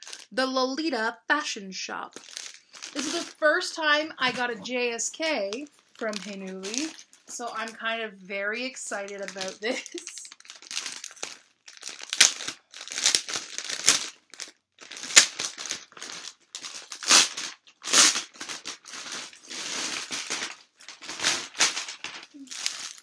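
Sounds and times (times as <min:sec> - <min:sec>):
plastic package crinkling: 0:00.0 - 0:00.4, 0:02.1 - 0:08.0, 0:08.8 - 0:23.0.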